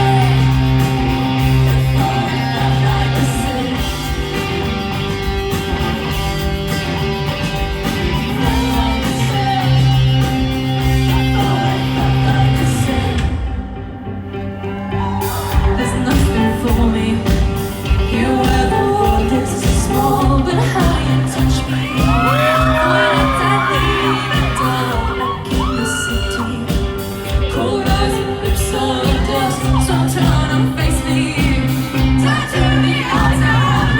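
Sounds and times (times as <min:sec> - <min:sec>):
woman singing: 0:00.0 - 0:04.7, 0:08.2 - 0:13.6, 0:15.4 - 0:33.9
rock band playing live: 0:00.0 - 0:33.9.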